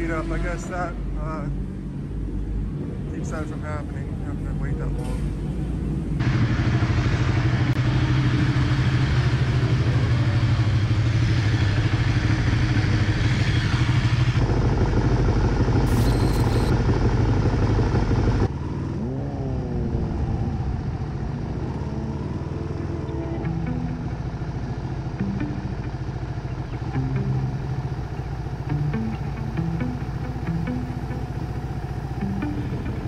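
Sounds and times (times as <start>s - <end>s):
motorcycle engines running: 1.0s - 33.0s
engine revving: 6.2s - 33.0s.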